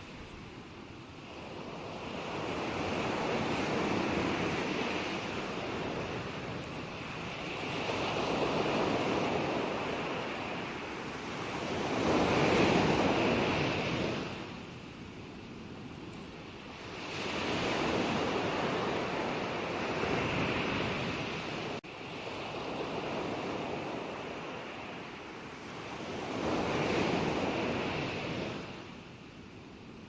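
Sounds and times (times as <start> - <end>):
ocean waves breaking on shore: 0.0 - 15.0, 16.4 - 29.6.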